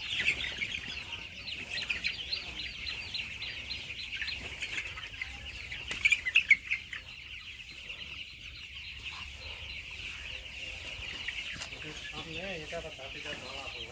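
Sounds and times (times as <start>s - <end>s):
chickens peeping: 0.0s - 13.9s.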